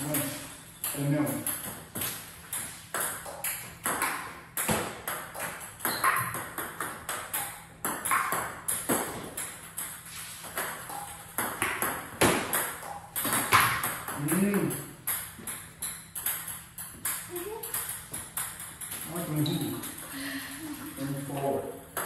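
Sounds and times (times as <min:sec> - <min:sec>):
table tennis ball hits: 0:00.0 - 0:20.2, 0:21.3 - 0:22.0.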